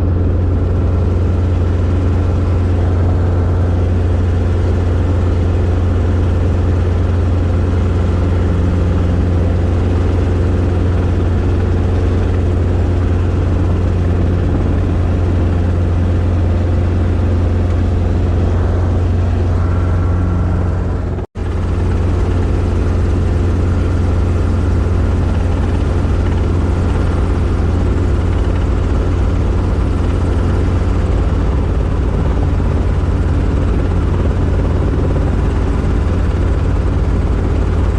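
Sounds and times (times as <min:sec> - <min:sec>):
helicopter engine and rotor drone: 0:00.0 - 0:37.9.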